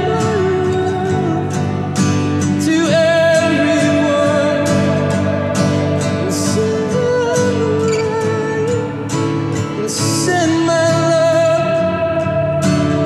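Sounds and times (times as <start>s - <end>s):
man singing: 0.0s - 13.0s
strummed acoustic guitar: 0.0s - 13.0s.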